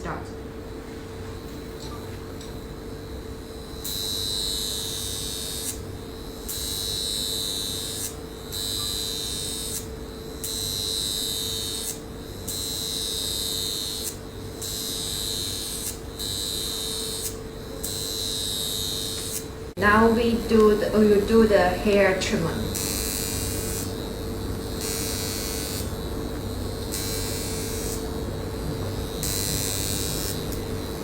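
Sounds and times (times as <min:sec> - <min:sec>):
faint machine hum: 0:00.0 - 0:31.0
facial wand buzzing: 0:01.4 - 0:31.0.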